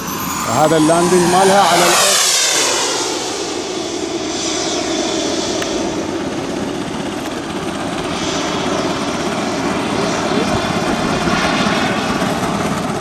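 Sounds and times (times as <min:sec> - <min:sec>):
model airplane motor and propeller: 0:00.0 - 0:13.0.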